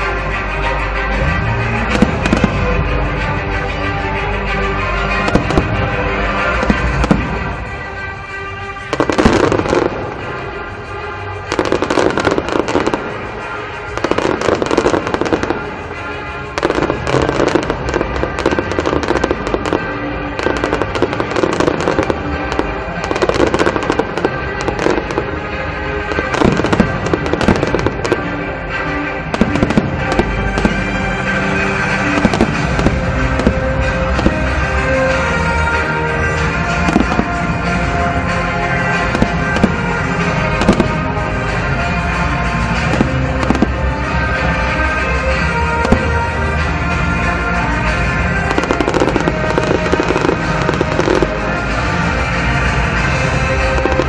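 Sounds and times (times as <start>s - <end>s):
fireworks shells bursting and crackling: 0.0s - 54.0s
music with sustained tones: 0.0s - 54.0s.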